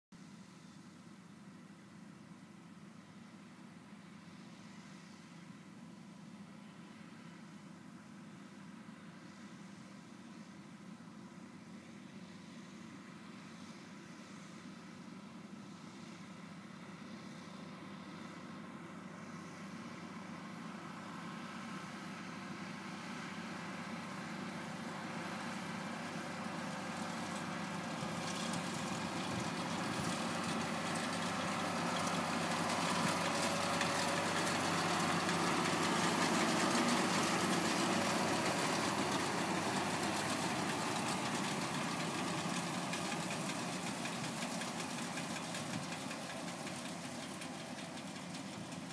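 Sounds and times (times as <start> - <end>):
vehicle engine running: 8.2 - 48.9.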